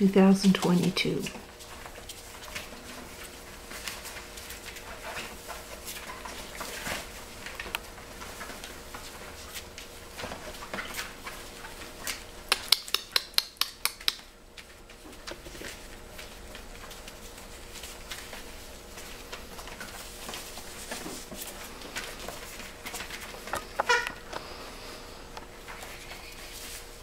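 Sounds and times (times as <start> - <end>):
puppy claws clicking on floor: 1.3 - 24.5.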